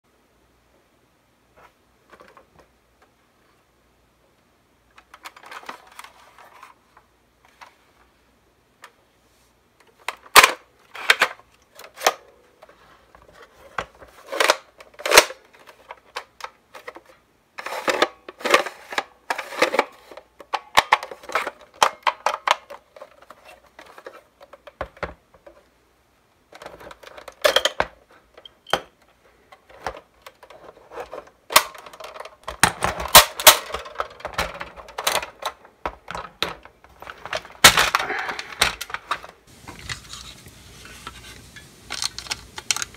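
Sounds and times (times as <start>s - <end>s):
plastic parts clicking and rattling: 2.0s - 3.1s, 4.9s - 7.8s, 9.8s - 25.7s, 26.5s - 42.9s.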